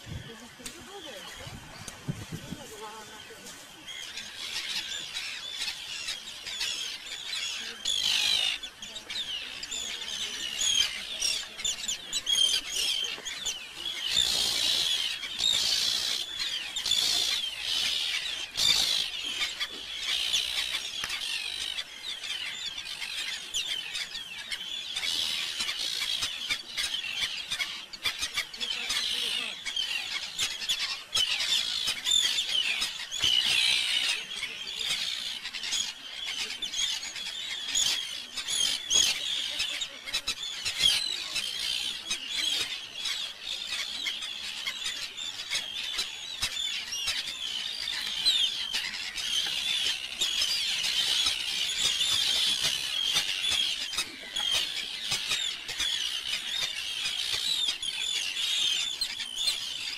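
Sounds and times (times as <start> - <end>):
seabirds calling: 0.0 - 59.9.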